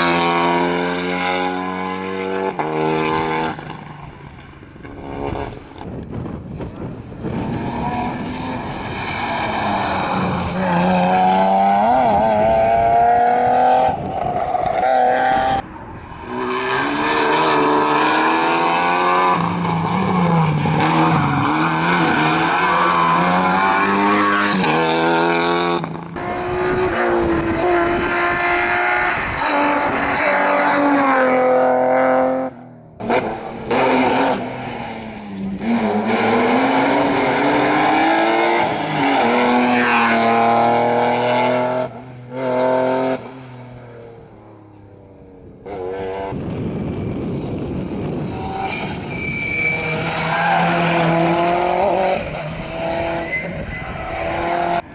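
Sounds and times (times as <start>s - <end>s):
rally car engines revving: 0.0s - 54.9s.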